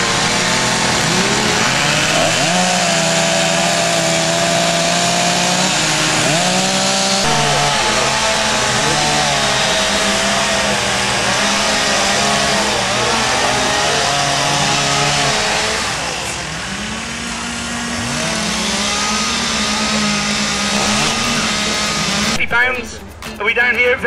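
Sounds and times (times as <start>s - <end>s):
chainsaws revving: 0.0s - 23.4s.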